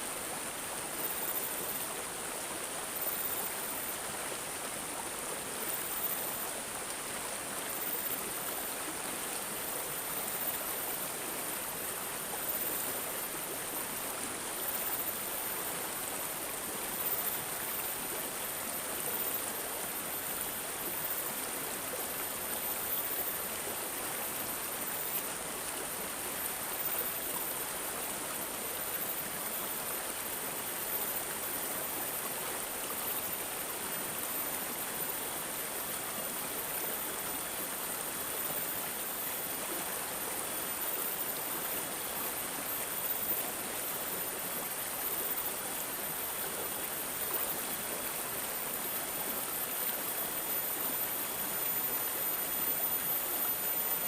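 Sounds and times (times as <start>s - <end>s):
stream water gurgling: 0.0s - 54.0s.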